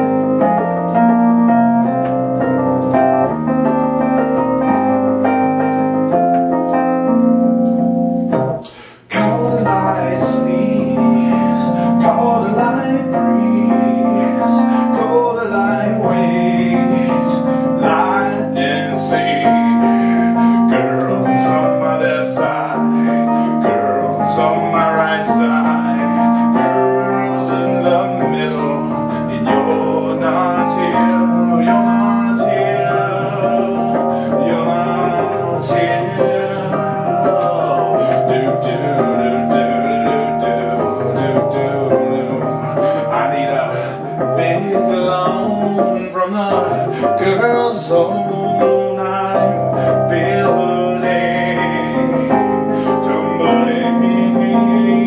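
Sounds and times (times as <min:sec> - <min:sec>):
electric piano riff: 0:00.0 - 0:55.0.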